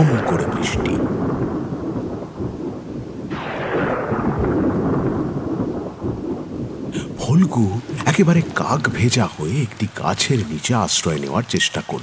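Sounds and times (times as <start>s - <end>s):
heavy rain falling: 0.0s - 12.0s
thunderclap rumbling: 0.0s - 12.0s.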